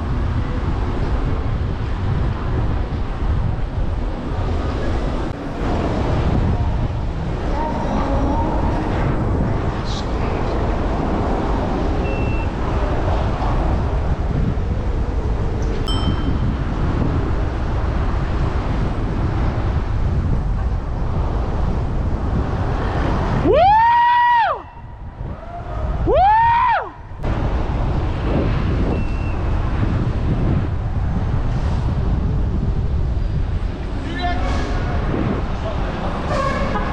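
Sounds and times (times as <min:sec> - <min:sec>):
vehicle low rumble: 0:00.0 - 0:36.9
wind noise on microphone: 0:00.0 - 0:36.9.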